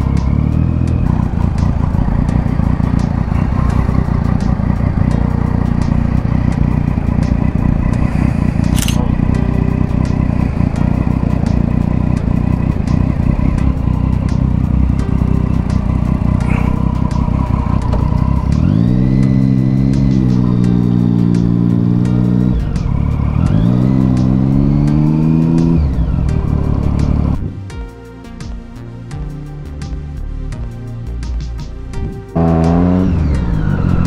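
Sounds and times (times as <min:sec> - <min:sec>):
motorcycle engine revving: 0:00.0 - 0:27.6, 0:32.0 - 0:34.0
dense low rumble: 0:00.0 - 0:27.7.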